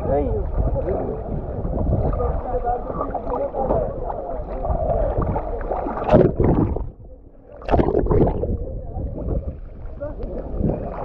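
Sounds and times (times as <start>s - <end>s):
lake water sloshing and splashing: 0.0s - 7.0s, 7.6s - 11.0s.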